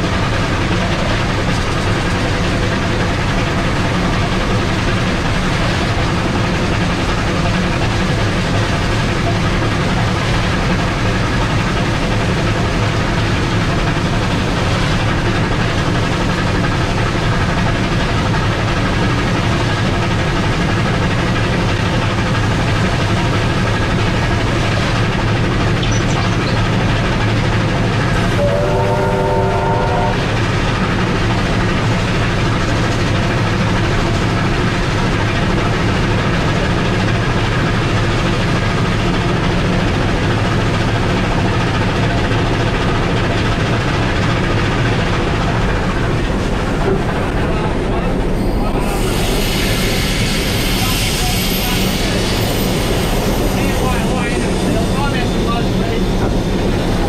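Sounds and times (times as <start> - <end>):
steam train wheels on rail: 0.0 - 57.0.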